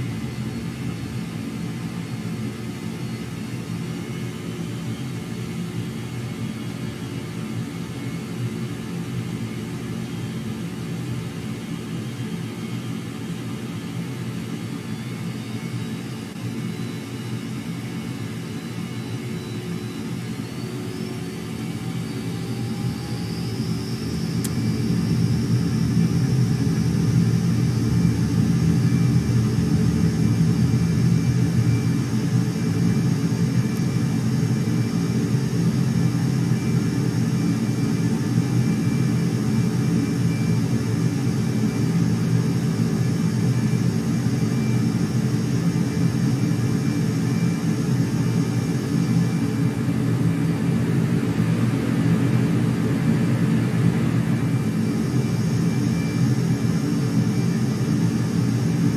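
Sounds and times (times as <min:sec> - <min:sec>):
jet engines rumbling and whining: 0:00.0 - 0:58.9.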